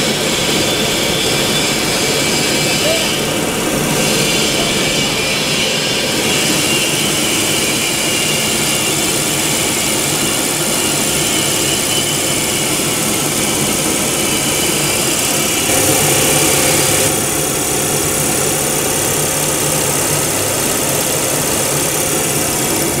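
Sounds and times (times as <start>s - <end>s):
machinery running with hiss: 0.0s - 23.0s.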